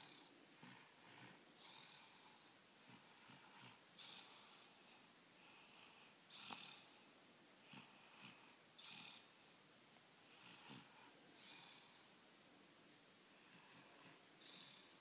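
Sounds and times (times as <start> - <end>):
soft snoring: 0.0 - 9.4, 10.2 - 12.1, 13.3 - 15.0.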